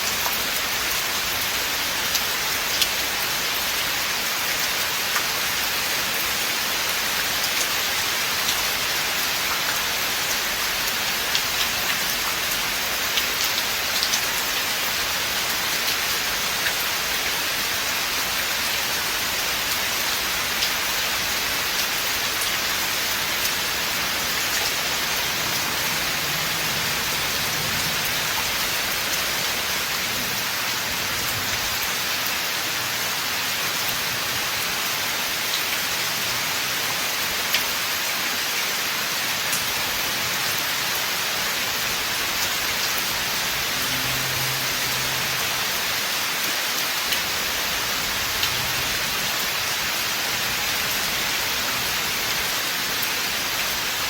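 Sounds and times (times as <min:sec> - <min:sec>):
rain on leaves and ground: 0:00.0 - 0:54.0.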